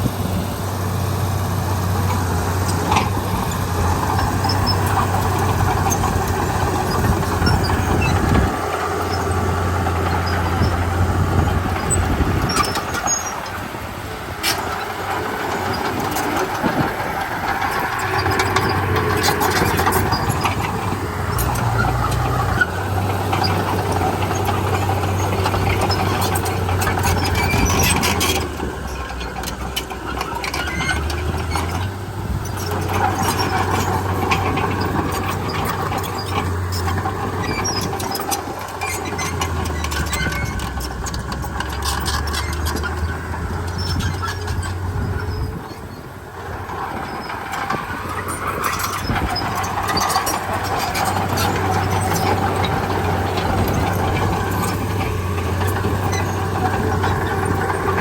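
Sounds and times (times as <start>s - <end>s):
bulldozer diesel engine: 0.0s - 58.0s
grinding steel tracks: 0.0s - 58.0s.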